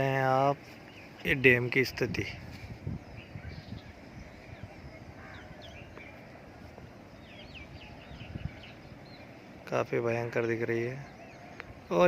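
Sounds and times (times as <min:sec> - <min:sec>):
birds chirping: 0:00.0 - 0:12.0
faint outdoor rush: 0:00.0 - 0:12.0.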